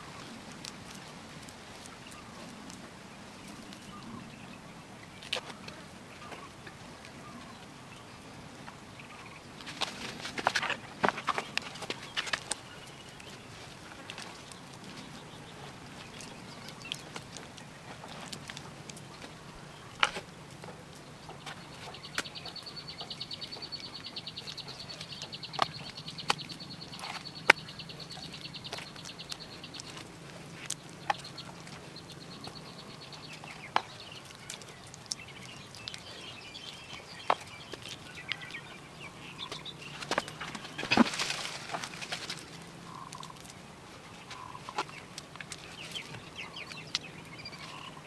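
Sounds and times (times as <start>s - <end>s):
hands pressing wet clay: 9.5s - 48.0s.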